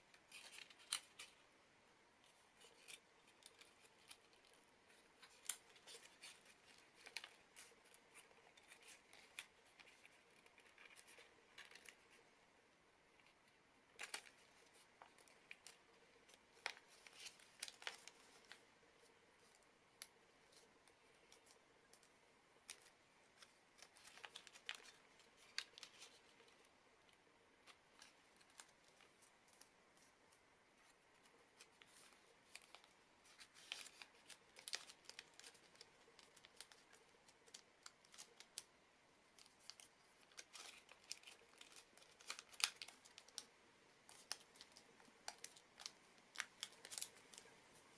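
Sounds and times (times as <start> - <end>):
paper crackling as folded: 0.0 - 1.5, 2.2 - 12.5, 13.1 - 47.9.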